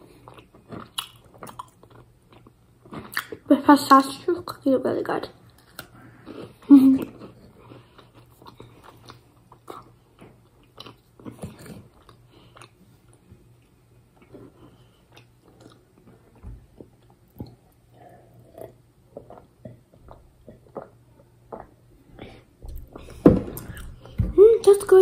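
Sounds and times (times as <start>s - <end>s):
person chewing cookie: 0.0s - 3.5s, 5.5s - 24.2s.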